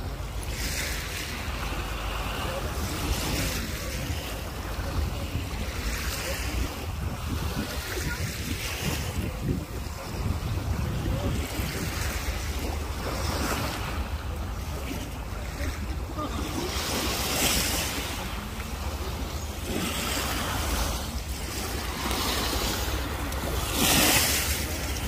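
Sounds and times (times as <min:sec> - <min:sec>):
sea waves washing in: 0:00.0 - 0:25.0
wind buffeting microphone: 0:00.0 - 0:25.0.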